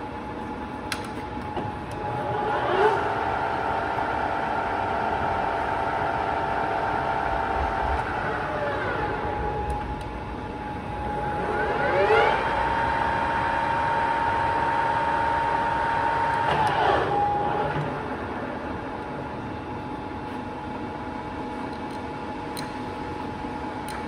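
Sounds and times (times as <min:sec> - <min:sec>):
faint machine hum: 0:00.0 - 0:24.0
lathe gear whine: 0:01.5 - 0:21.6.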